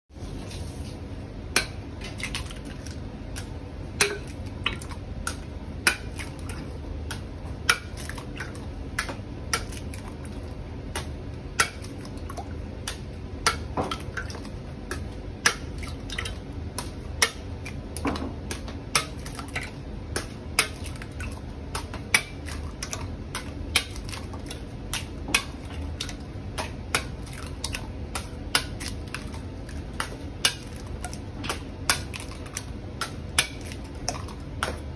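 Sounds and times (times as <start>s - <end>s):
low steady hum: 0.1s - 34.9s.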